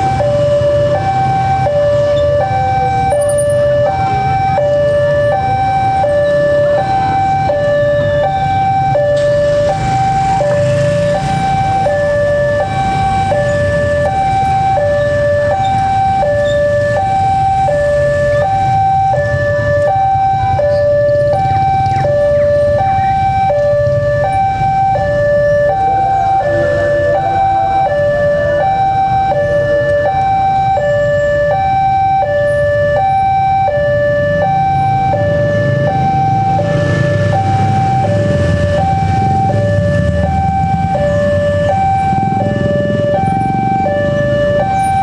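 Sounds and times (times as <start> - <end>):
idling motorcycle and traffic engines: 0.0 - 45.0.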